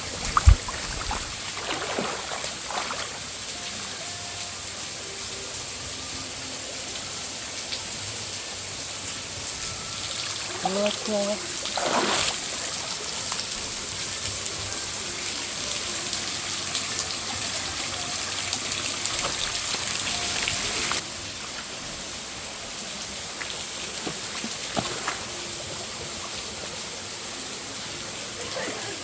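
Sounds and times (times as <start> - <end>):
faint water splashes: 0.0 - 29.0
mountain stream rushing: 0.0 - 29.0.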